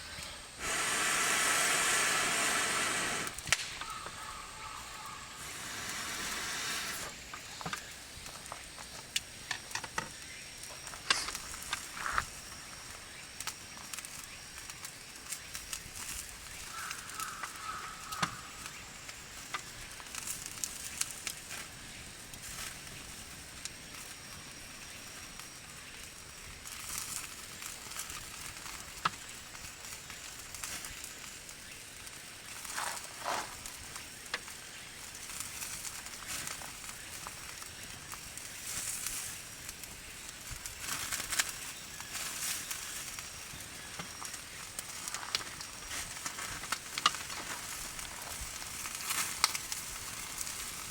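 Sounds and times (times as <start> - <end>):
campfire crackling and popping: 0.0 - 50.9
chicken skewers sizzling: 0.2 - 8.4, 10.2 - 50.9.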